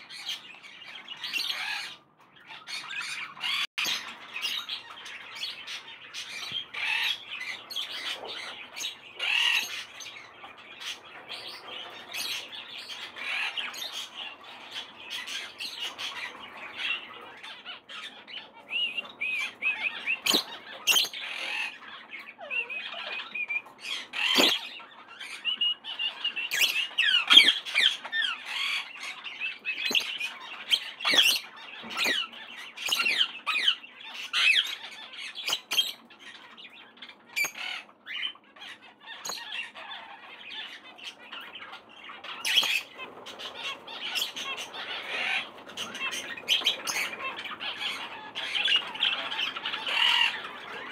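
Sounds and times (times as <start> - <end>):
parrots chirping and squawking: 0.0 - 50.9.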